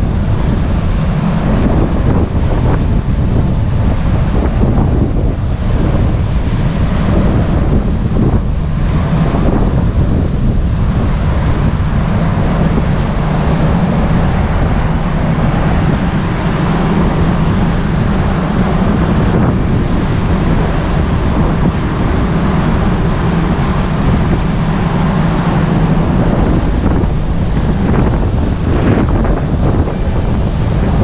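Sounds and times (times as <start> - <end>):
ship engine hum: 0.0 - 31.0
wind on microphone: 0.0 - 31.0.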